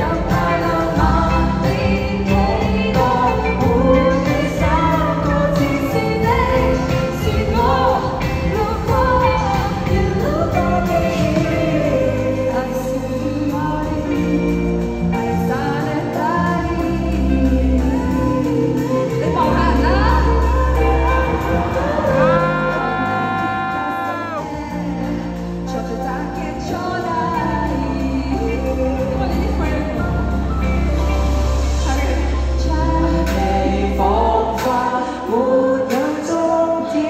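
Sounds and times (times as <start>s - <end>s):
band playing pop music: 0.0s - 37.0s
person singing: 0.0s - 37.0s.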